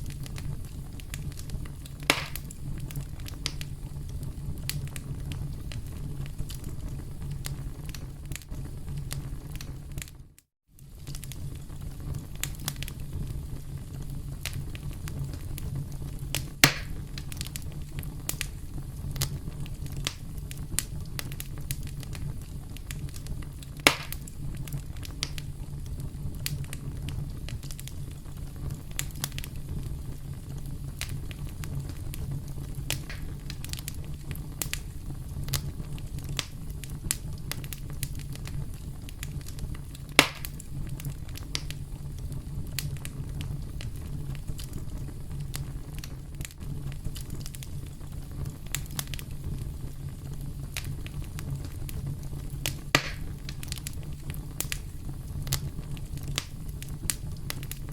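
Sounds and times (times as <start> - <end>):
campfire crackling: 0.0 - 57.9
loud fire pops: 0.0 - 57.9.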